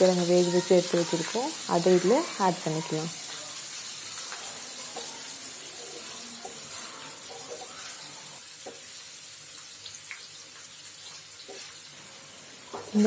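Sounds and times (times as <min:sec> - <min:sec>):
hot oil sizzling in a pan: 0:00.0 - 0:13.0.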